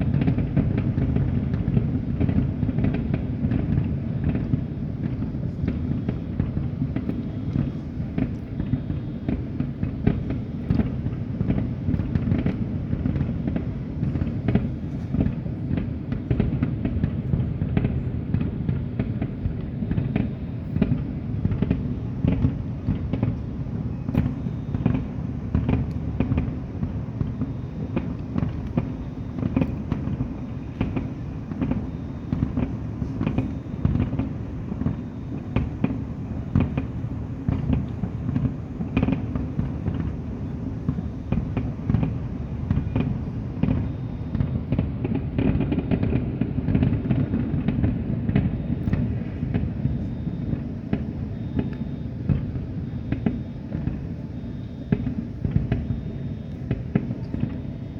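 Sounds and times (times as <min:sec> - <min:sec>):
fireworks bangs: 0:00.0 - 0:57.9.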